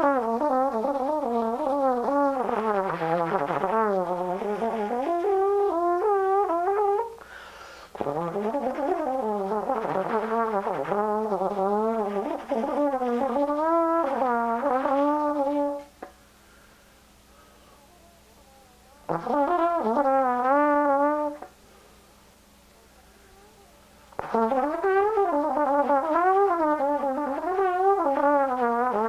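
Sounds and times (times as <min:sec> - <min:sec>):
solo trombone playing: 0:00.0 - 0:07.2, 0:07.9 - 0:16.1, 0:17.8 - 0:21.6, 0:22.8 - 0:29.0.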